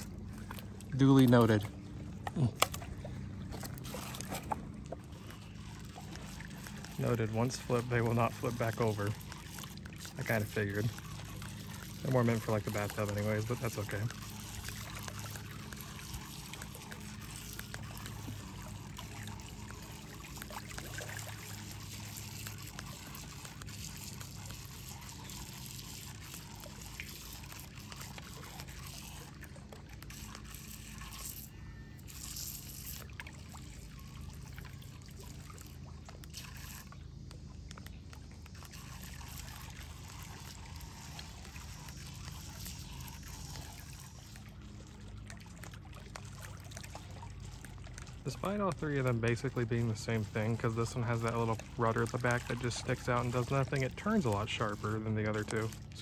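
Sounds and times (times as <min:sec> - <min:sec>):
faint low hum: 0:00.0 - 0:56.0
water lapping among rocks: 0:00.0 - 0:56.0.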